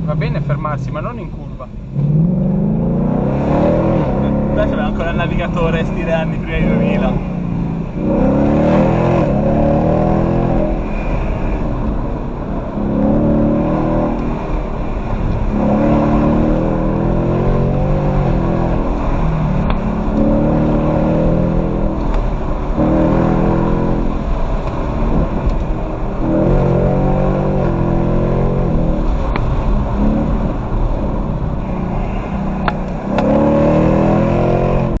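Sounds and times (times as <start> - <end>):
car engine accelerating through gears: 0.0 - 35.0.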